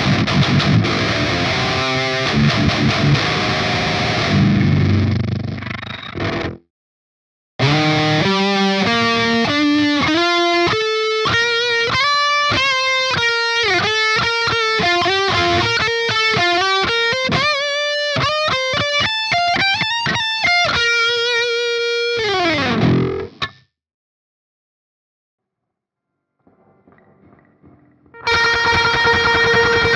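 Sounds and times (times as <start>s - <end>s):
electric guitar solo: 0.0s - 6.6s, 7.6s - 23.5s, 26.5s - 29.9s.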